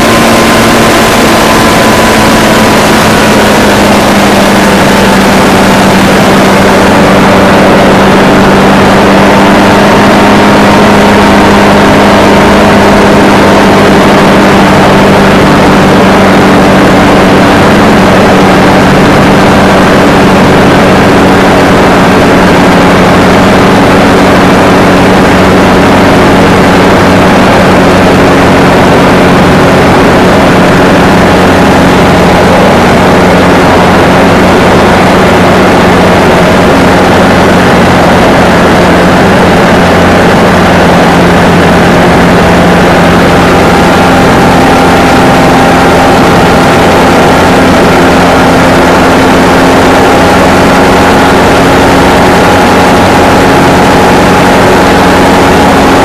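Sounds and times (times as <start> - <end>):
light aircraft engine running: 0.0 - 56.0.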